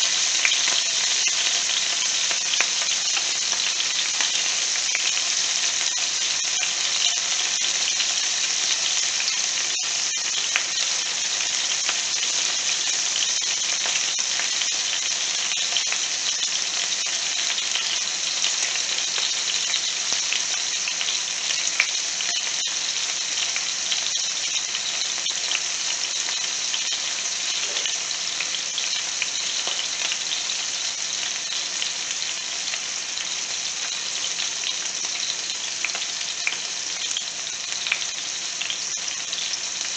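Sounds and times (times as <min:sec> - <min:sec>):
chicken sizzling in a skillet: 0:00.0 - 0:39.9.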